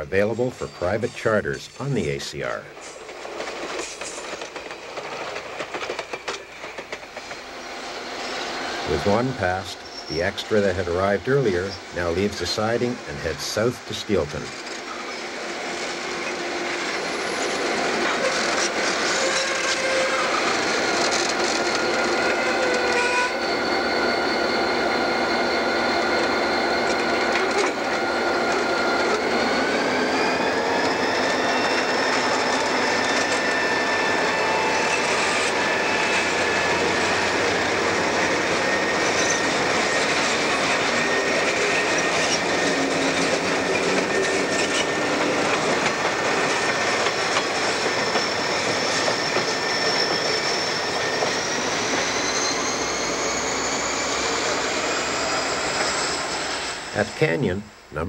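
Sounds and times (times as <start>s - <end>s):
train engines and wheels rumbling: 0.0s - 58.0s
high whining tones: 4.2s - 58.0s.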